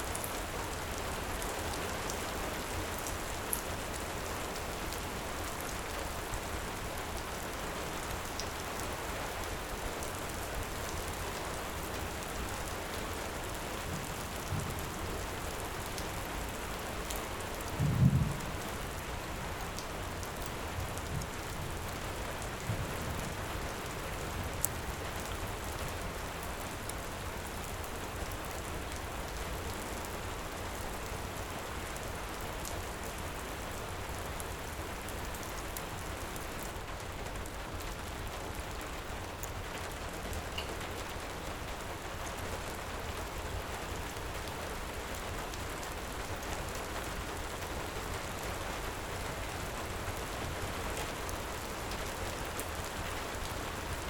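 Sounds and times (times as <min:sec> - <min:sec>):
faint wood fire crackles: 0:00.0 - 0:54.0
heavy rain: 0:00.0 - 0:54.0.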